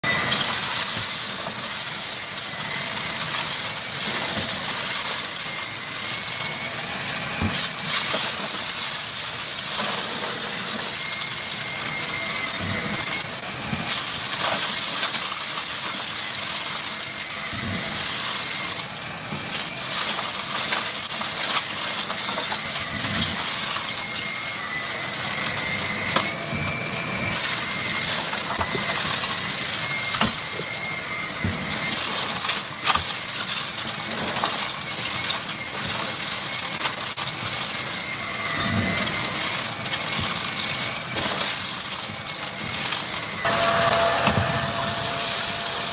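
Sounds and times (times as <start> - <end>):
debris rattling through vacuum: 0.0 - 45.9
vacuum motor whine: 0.1 - 45.9.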